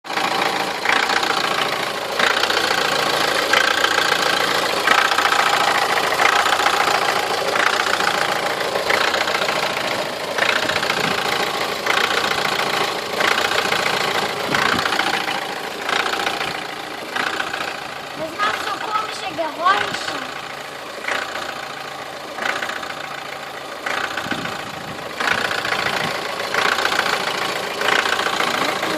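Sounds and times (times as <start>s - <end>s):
diesel engine idling: 0.0s - 28.9s
cyclic engine noise: 0.1s - 28.9s.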